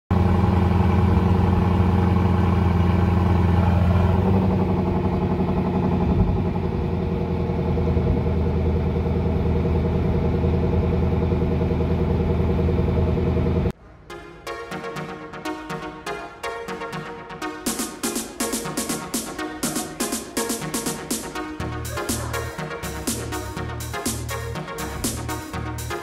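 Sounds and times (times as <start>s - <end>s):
car engine idling: 0.1s - 13.7s, 17.7s - 26.0s.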